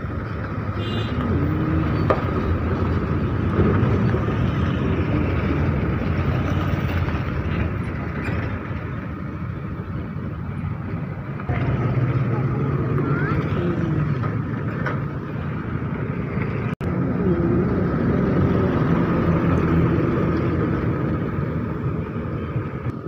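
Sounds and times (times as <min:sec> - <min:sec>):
trucks driving on a dirt road: 0:00.0 - 0:23.0.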